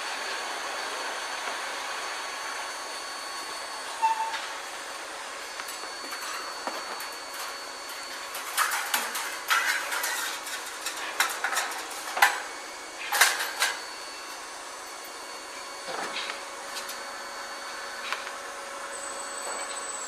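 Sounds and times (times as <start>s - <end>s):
faint machine hum: 0.0s - 20.0s.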